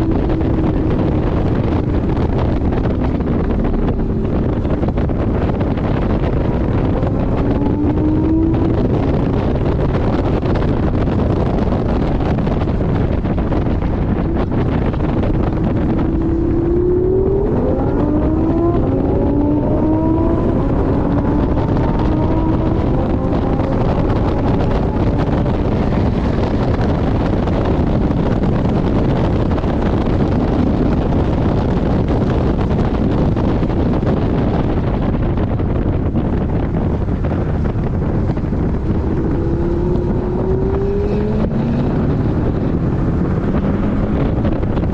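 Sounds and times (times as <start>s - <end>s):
car engine accelerating: 0.0s - 44.9s
wind and road noise: 0.0s - 44.9s.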